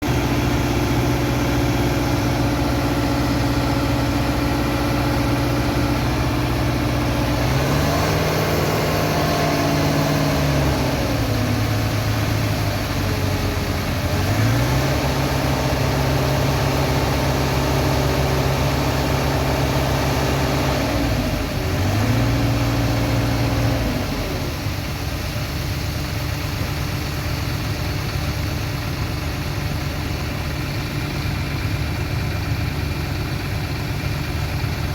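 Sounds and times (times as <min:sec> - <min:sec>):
diesel engine revving: 0:00.0 - 0:34.9.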